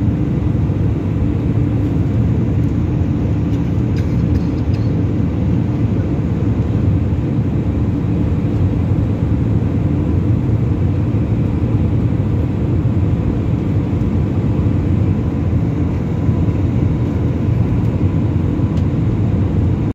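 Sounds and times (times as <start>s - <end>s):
faint steady whine: 0.0s - 19.9s
jet engine and airflow rumble: 0.0s - 19.9s.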